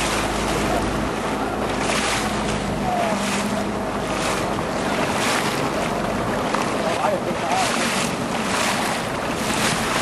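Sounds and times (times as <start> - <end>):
boat engine running: 0.0 - 10.0
sea rushing past hull: 0.0 - 10.0
wind noise on microphone: 0.0 - 10.0.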